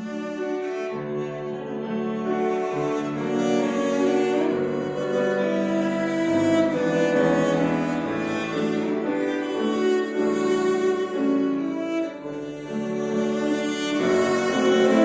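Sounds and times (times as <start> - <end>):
cello melody: 0.0 - 15.0
piano accompaniment: 0.0 - 15.0.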